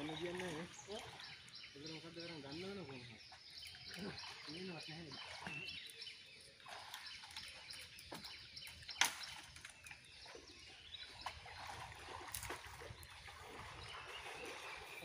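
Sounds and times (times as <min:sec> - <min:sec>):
birds chirping and calling: 0:00.0 - 0:15.0
faint riverside ambience: 0:00.0 - 0:15.0.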